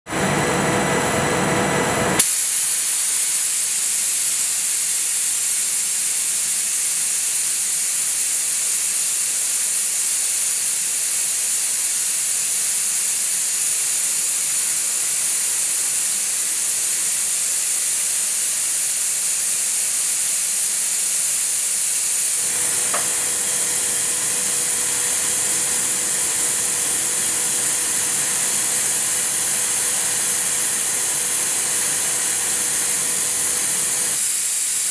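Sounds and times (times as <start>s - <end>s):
lathe machining hiss: 2.0s - 34.9s.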